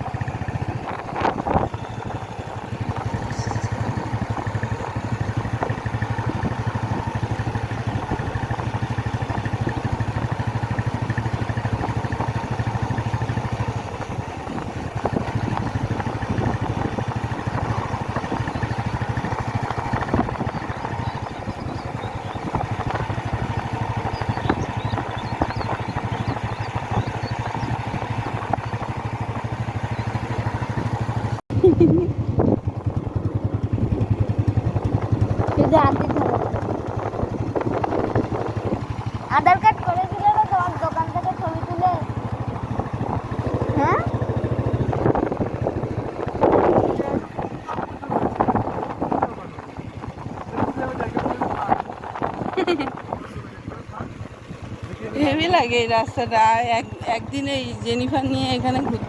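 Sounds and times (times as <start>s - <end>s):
motorcycle engine running: 0.0s - 59.0s
road noise: 0.0s - 59.0s.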